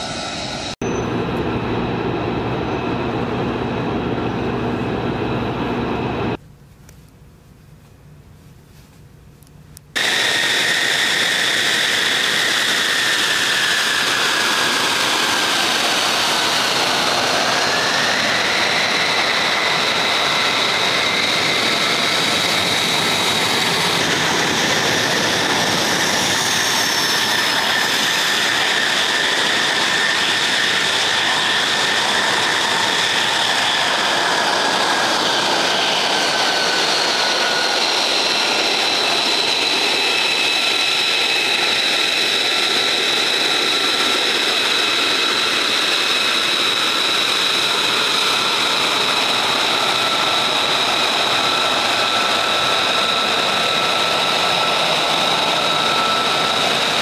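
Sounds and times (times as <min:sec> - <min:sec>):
jet engine idling with whine: 0:00.0 - 0:57.0.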